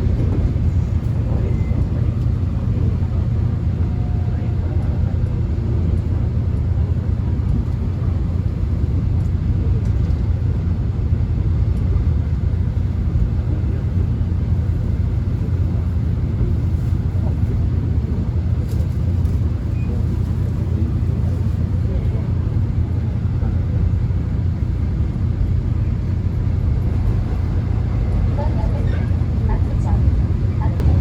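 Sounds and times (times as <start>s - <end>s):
subway train rumble: 0.0s - 31.0s.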